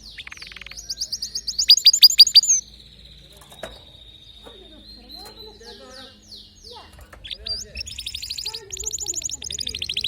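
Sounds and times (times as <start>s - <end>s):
canary singing: 0.0s - 10.0s.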